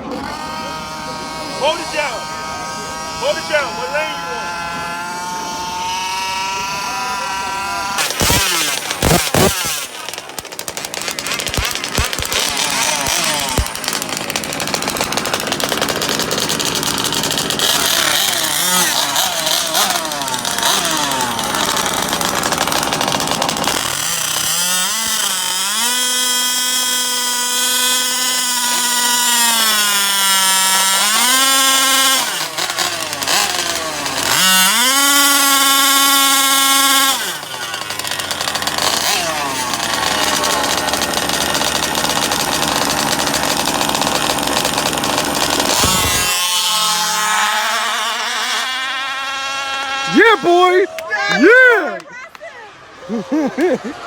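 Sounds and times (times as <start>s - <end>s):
rc car engines revving: 0.0s - 54.0s.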